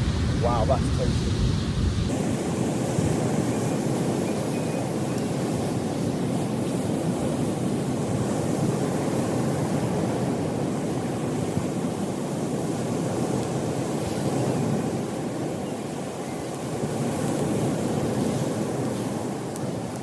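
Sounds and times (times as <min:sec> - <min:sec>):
sea surf rushing on beach: 0:00.0 - 0:20.0
wind on microphone: 0:00.0 - 0:20.0.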